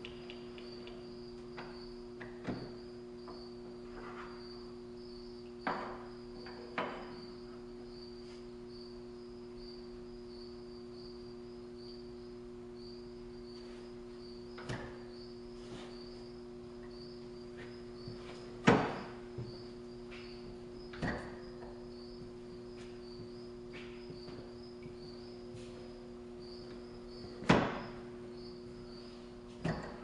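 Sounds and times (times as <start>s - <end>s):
steady low hum: 0.0s - 30.0s
faint pulsing high chirp: 4.3s - 29.3s.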